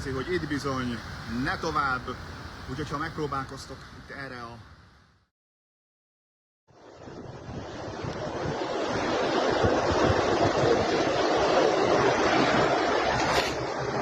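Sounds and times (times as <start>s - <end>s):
storm water rushing: 0.0s - 4.6s, 6.8s - 14.0s
rain: 0.0s - 4.7s, 6.9s - 14.0s
wind buffeting microphone: 0.0s - 4.9s, 6.8s - 14.0s.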